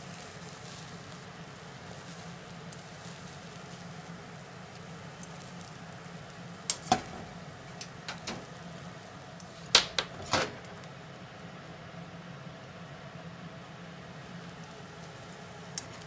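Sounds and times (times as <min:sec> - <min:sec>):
egg frying hiss: 0:00.0 - 0:16.0.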